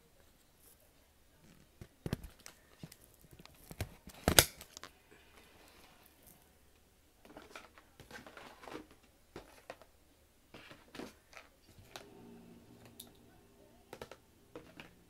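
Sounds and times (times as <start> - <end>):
faint clicks and rustles: 0.0 - 12.1.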